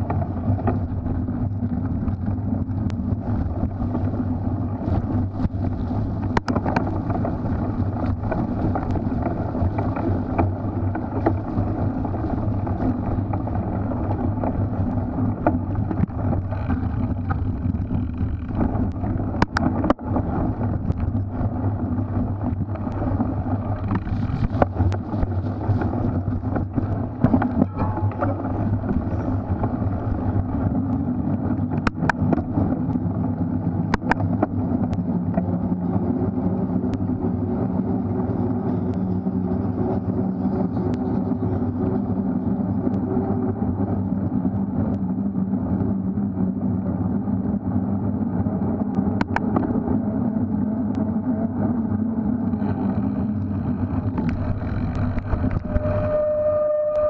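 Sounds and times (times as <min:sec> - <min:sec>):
wind and bike riding rumble: 0:00.0 - 0:57.0.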